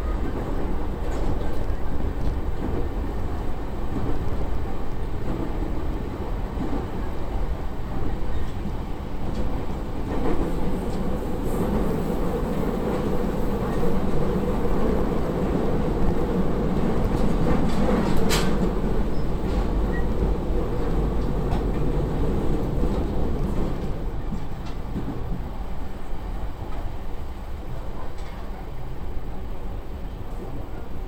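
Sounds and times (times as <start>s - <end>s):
train wheels rumbling: 0.0s - 31.0s.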